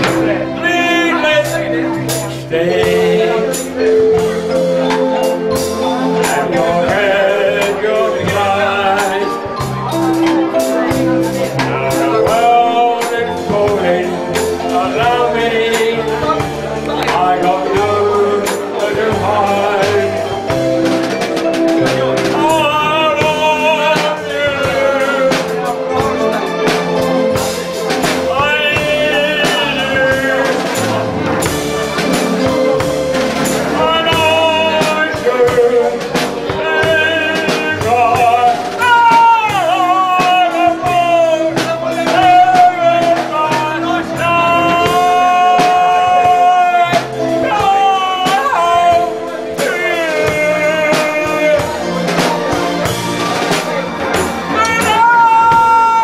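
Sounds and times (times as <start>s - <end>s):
backing track with bass and drums: 0.0s - 56.0s
man singing into microphone: 0.0s - 56.0s.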